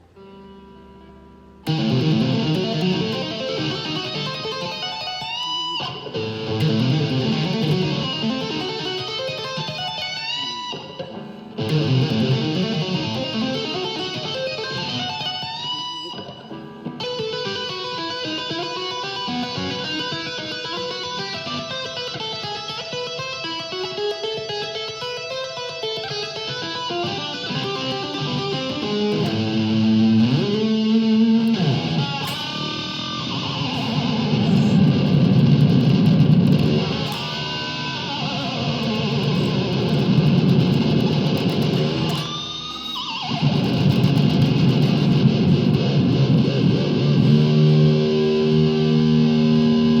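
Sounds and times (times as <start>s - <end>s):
distorted guitar chord: 0.0s - 50.0s
electric guitar tapping and slides: 1.6s - 50.0s.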